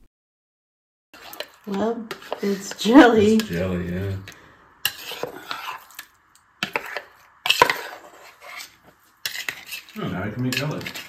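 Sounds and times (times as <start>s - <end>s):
knife knocking and scraping bowl: 1.2s - 11.0s.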